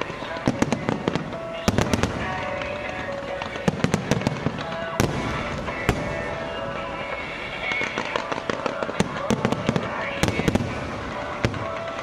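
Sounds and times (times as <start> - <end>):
fireworks crackle: 0.0 - 12.0
fireworks cracks and pops: 0.0 - 12.0
loud fireworks bangs: 0.0 - 12.0.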